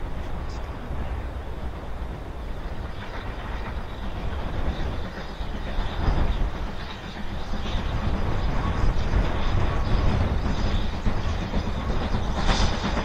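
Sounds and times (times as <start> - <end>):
steam locomotive hauling train: 0.0 - 13.0.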